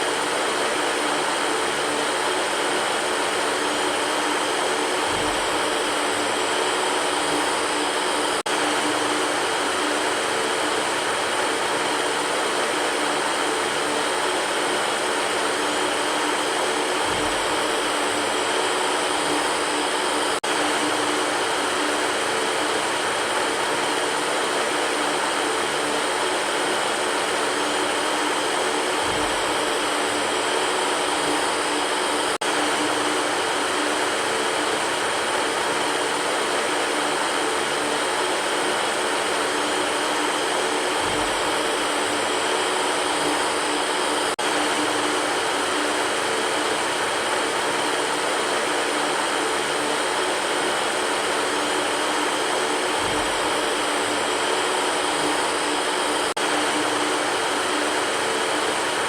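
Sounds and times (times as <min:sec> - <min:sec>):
electric fan running: 0:00.0 - 0:59.0.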